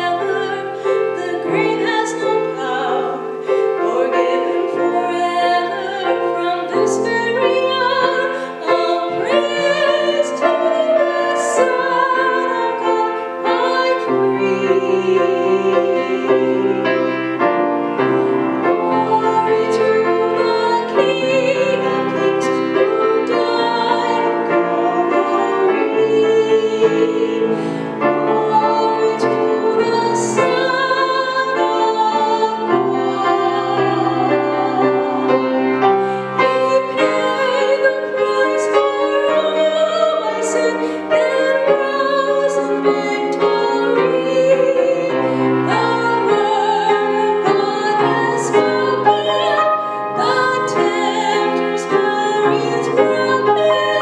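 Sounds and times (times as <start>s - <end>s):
instrumental accompaniment: 0.0s - 54.0s
woman singing with vibrato: 0.0s - 54.0s.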